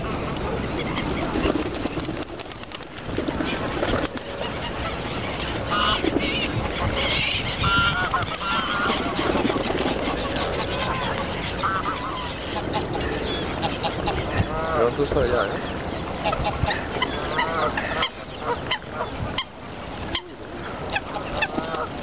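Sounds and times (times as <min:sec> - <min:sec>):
waterbirds calling: 0:00.0 - 0:22.0
geese honking: 0:04.3 - 0:22.0.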